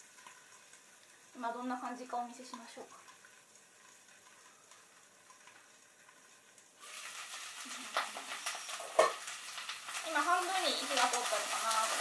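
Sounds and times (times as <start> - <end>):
cabbage sizzling in frying pan: 0.0 - 12.0.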